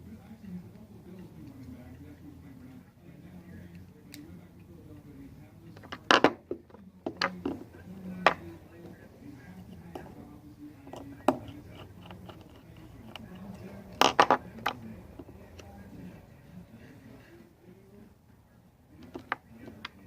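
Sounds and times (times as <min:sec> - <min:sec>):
faint background talk: 0:00.0 - 0:20.0.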